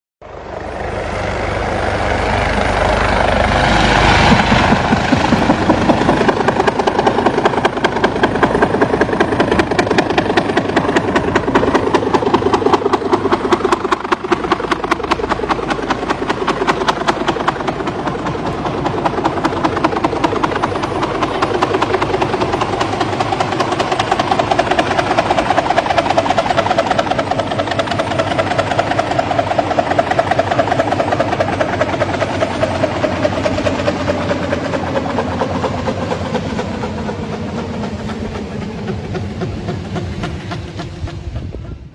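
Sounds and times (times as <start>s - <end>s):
helicopter rotor beat: 0.2s - 41.9s
turbine whine: 0.2s - 41.9s.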